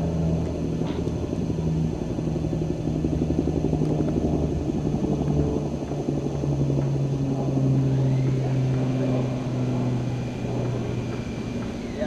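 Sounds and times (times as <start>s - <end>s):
helicopter rotor and engine hum: 0.0s - 12.0s.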